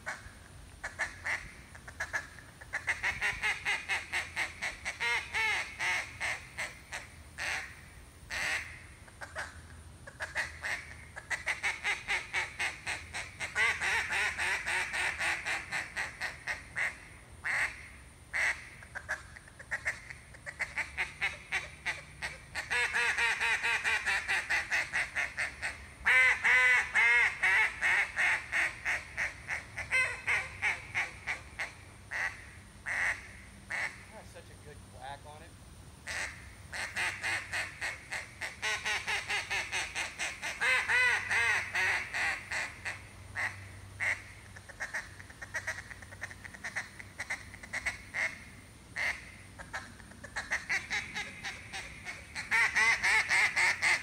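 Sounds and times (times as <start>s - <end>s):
duck call quacking: 0.0s - 34.4s, 36.0s - 54.0s.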